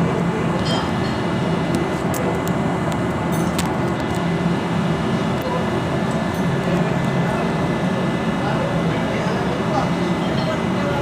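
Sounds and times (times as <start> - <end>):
machinery droning: 0.0 - 11.0.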